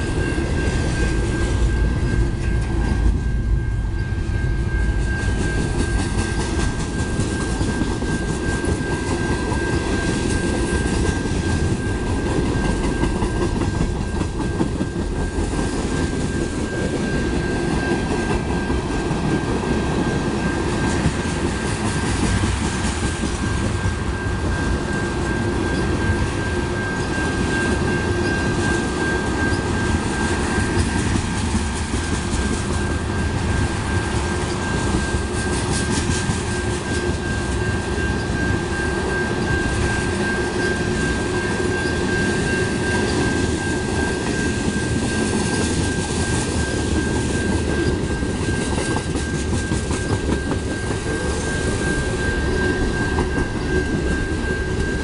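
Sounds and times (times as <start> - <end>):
steady high tone: 0.0 - 55.0
train wheels rumbling on rail: 0.0 - 55.0.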